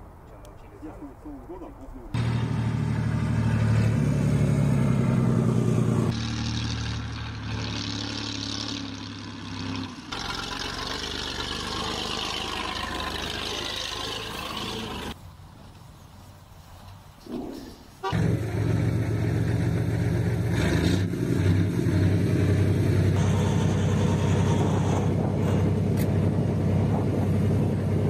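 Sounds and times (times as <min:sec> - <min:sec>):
heavy truck engine droning: 0:02.2 - 0:15.2, 0:18.0 - 0:28.0.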